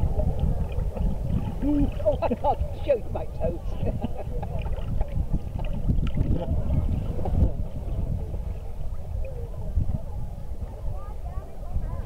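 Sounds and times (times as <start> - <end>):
seawater sloshing: 0.0 - 12.0
wind buffeting microphone: 0.0 - 12.0.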